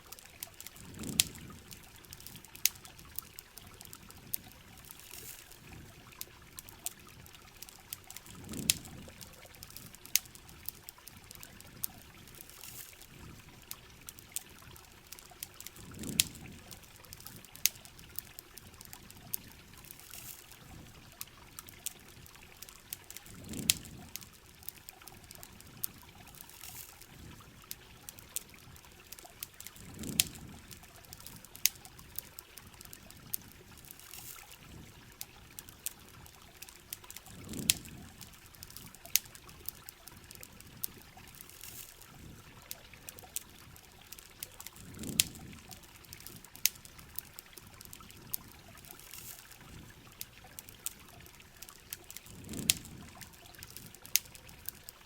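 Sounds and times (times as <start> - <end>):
campfire crackling and popping: 0.0 - 55.0
steady rain: 0.0 - 55.0.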